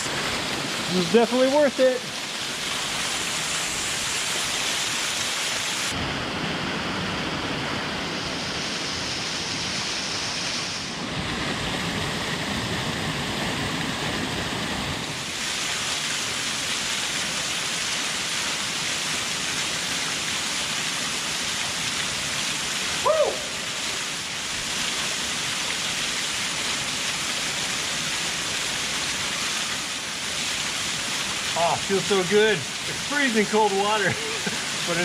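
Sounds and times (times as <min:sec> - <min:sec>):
waterfall rushing and splashing: 0:00.0 - 0:35.0.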